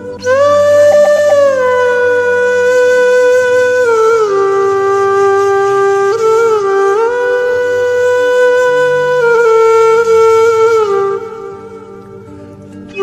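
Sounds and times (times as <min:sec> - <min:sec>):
slow flute-like melody: 0:00.0 - 0:13.0.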